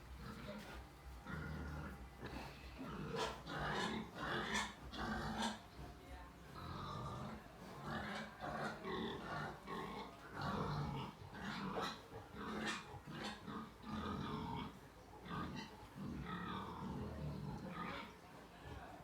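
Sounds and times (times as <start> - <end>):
pigs grunting: 0.0 - 19.0.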